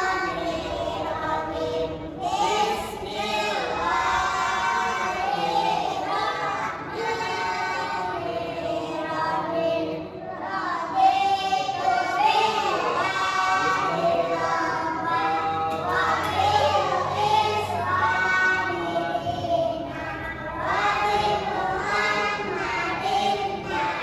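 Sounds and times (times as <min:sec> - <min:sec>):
children singing in unison: 0:00.0 - 0:24.0.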